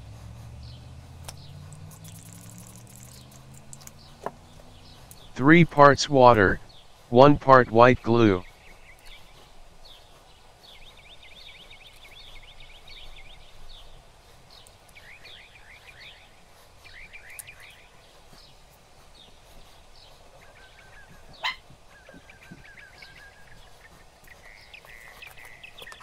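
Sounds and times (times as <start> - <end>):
birds chirping in quick trills: 0.6 - 5.4, 8.4 - 26.0.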